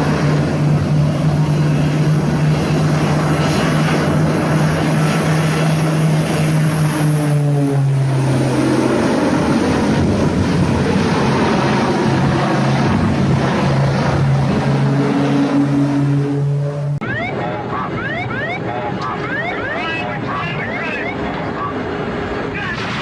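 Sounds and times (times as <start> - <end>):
propeller aircraft engine droning: 0.0 - 23.0.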